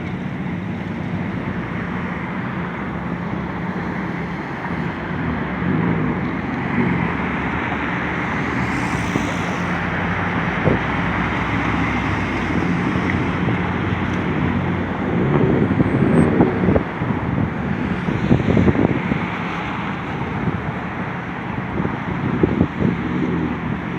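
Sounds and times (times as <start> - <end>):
railroad car rumbling: 0.0 - 23.9.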